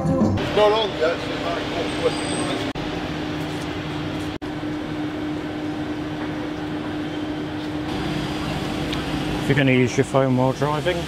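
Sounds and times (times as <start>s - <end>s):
city street noise: 0.0s - 11.0s
steady mechanical hum: 0.4s - 11.0s.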